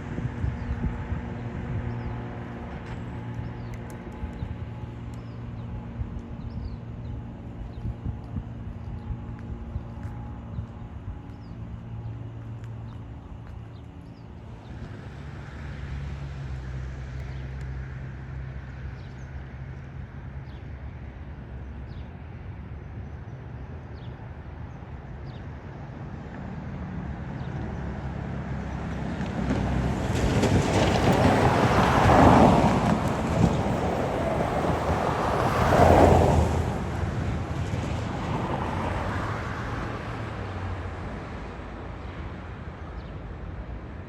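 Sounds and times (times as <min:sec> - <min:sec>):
vehicle engine drone: 0:00.0 - 0:44.0.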